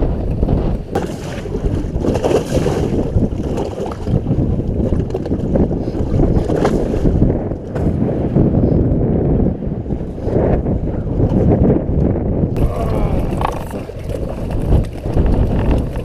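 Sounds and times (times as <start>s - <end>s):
choppy water: 0.0s - 16.0s
strong wind buffeting microphone: 0.0s - 16.0s.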